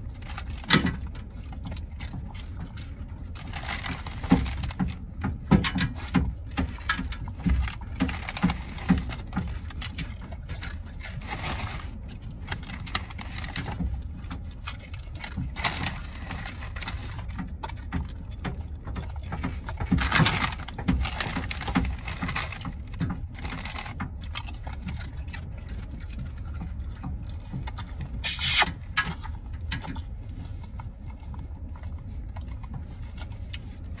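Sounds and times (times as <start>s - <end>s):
potato chips crunching: 0.0s - 30.0s.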